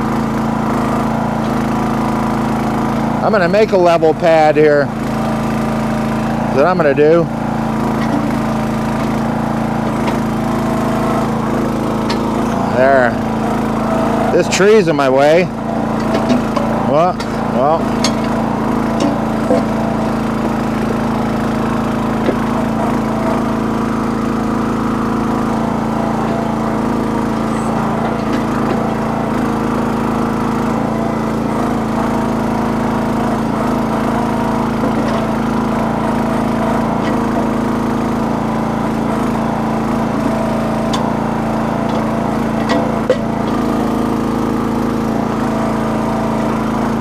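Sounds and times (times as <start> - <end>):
small petrol engine running: 0.0 - 47.0.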